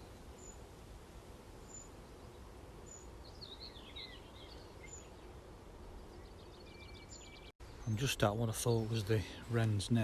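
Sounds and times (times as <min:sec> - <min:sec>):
birds singing: 0:00.0 - 0:00.7, 0:01.6 - 0:10.0.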